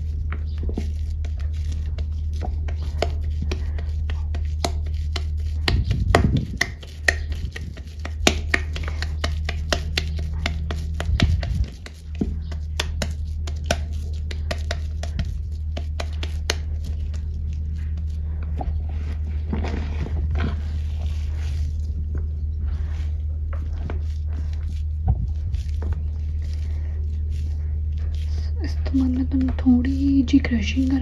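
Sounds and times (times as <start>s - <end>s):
heavy low thumps: 0.0s - 6.8s, 7.4s - 29.8s
chalk crackling and crunching: 0.0s - 31.0s
steady low hum: 0.0s - 31.0s.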